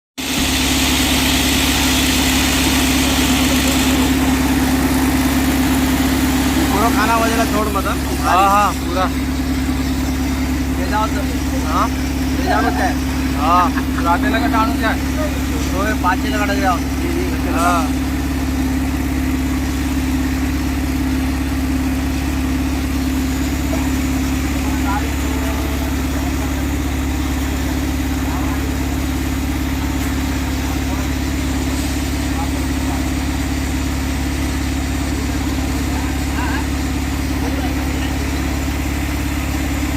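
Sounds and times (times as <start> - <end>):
machine engine humming with hiss: 0.2 - 39.9.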